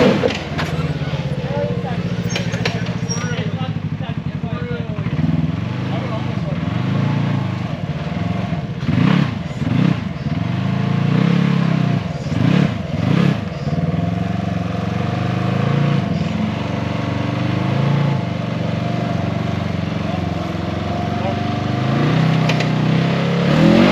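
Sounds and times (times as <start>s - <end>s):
engine revving: 0.0s - 23.9s.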